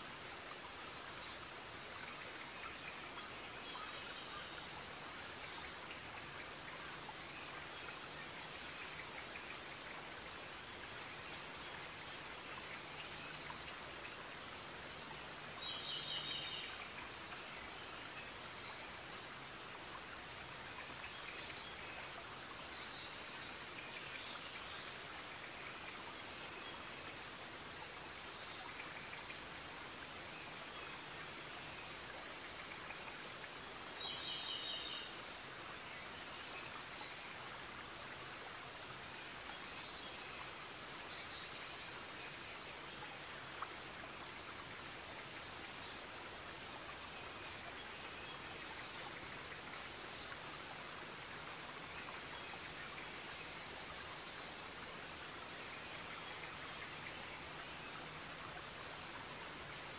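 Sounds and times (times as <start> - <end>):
steady forest hiss: 0.0 - 59.9.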